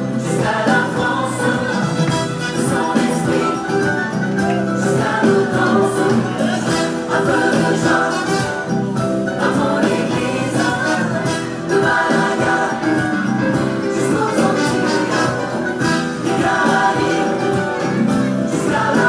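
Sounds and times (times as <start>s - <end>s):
group singing worship music: 0.0s - 19.0s.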